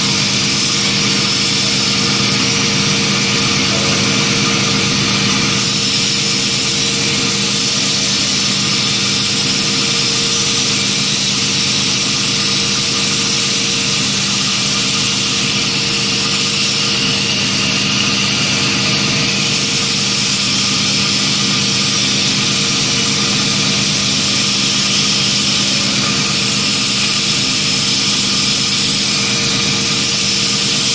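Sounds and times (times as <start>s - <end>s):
lathe motor hum: 0.0s - 30.9s.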